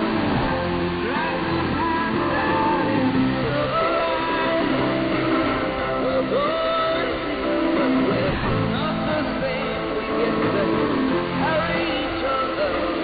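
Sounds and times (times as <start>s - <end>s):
song with singing over radio: 0.0s - 13.0s.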